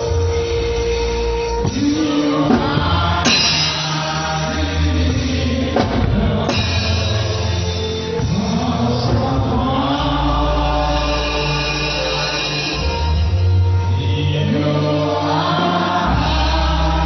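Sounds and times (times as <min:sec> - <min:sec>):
drum kit: 0:00.0 - 0:17.0
voices singing held notes: 0:00.0 - 0:17.0.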